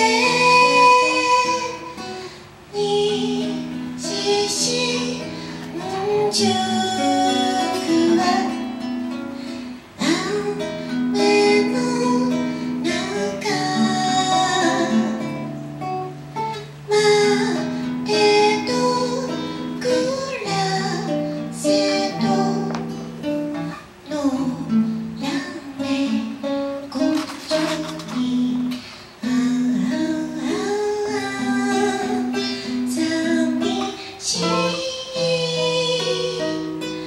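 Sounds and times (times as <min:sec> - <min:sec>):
woman singing into a microphone: 0:00.0 - 0:15.8, 0:16.4 - 0:37.0
acoustic guitar: 0:00.0 - 0:37.0.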